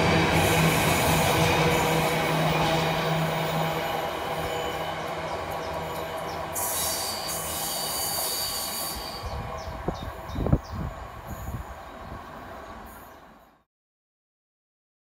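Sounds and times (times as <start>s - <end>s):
train wheels rumbling on rail: 0.0s - 13.5s.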